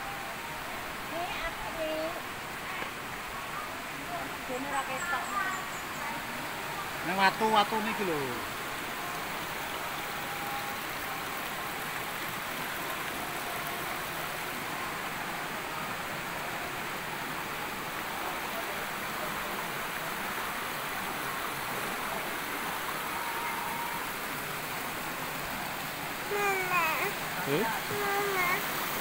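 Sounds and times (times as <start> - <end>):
stream and waterfall rushing: 0.0 - 29.0.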